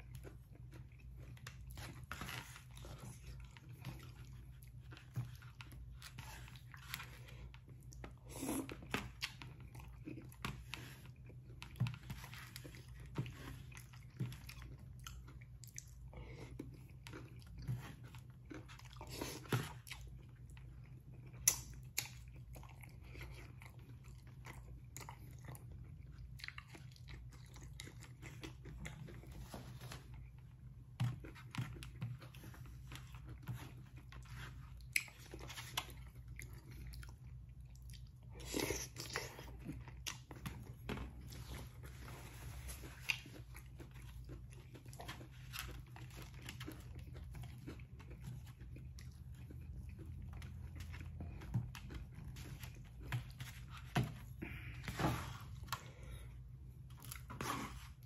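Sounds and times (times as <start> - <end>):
man chewing: 0.0 - 58.0.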